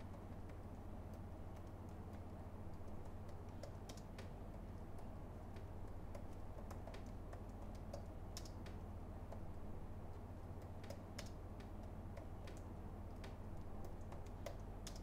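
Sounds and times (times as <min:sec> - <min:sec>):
computer keyboard typing: 0:00.0 - 0:09.6, 0:10.5 - 0:15.0
low steady hum: 0:00.0 - 0:15.0.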